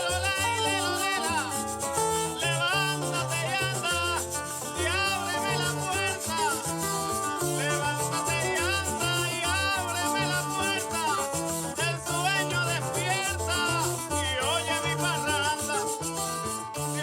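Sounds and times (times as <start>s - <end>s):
latin christmas song with singing: 0.0s - 17.0s
maracas shaking: 0.0s - 17.0s.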